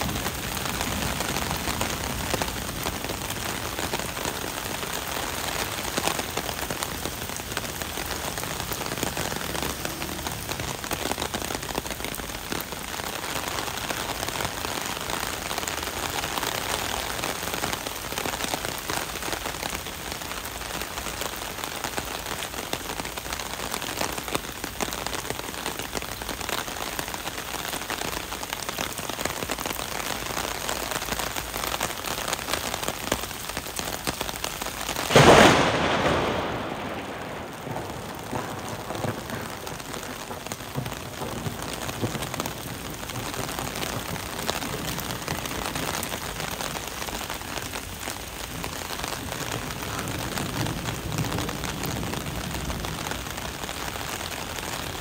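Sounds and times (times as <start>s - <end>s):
heavy rain on wet pavement: 0.0s - 55.0s.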